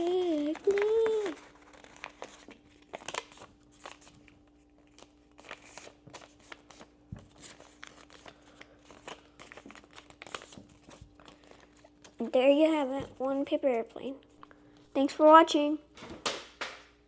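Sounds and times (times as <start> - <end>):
paper crinkling as it is folded: 0.0 - 14.2
faint steady hum: 0.0 - 17.0.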